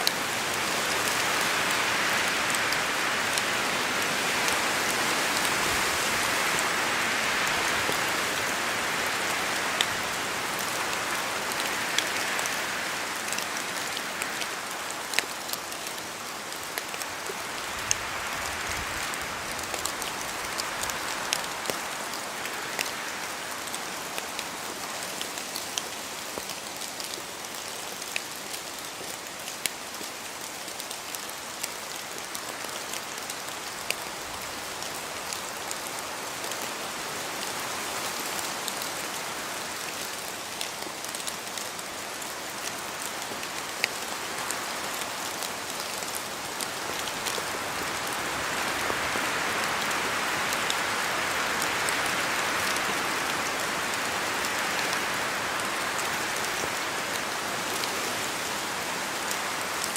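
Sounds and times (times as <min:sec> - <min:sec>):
rain falling through trees: 0:00.0 - 0:59.9
wind through trees: 0:00.0 - 0:59.9.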